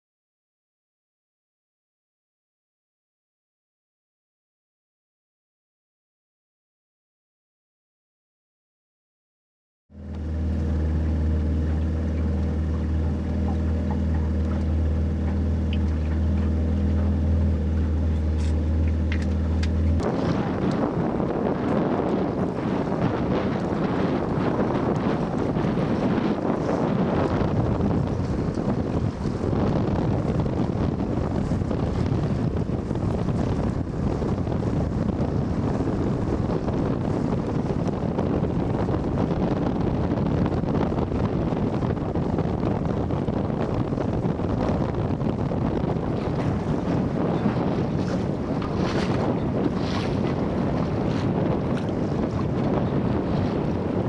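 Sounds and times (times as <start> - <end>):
boat engine droning: 9.9 - 54.0
wind buffeting microphone: 9.9 - 54.0.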